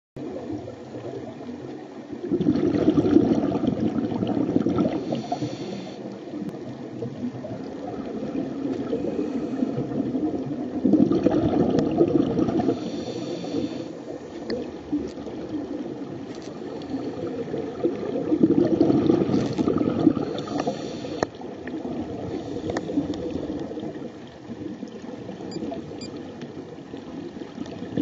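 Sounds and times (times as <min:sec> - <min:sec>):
exhaled air bubbling underwater: 0:00.2 - 0:28.0
water noise: 0:00.2 - 0:28.0.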